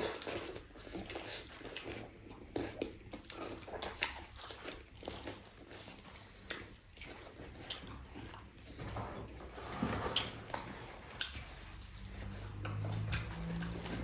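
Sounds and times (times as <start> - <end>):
chewing and crunching: 0.0 - 14.0.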